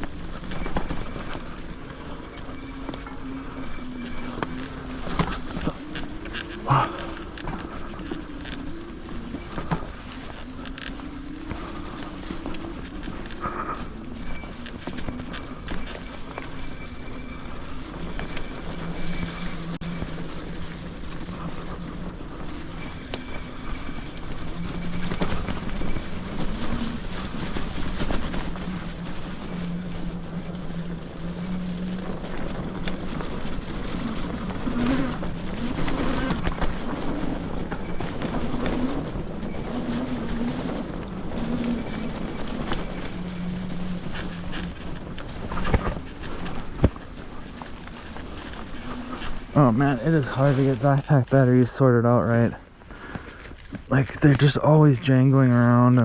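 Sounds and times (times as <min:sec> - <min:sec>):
tyre noise: 0:00.0 - 0:56.0
wind noise: 0:00.0 - 0:56.0.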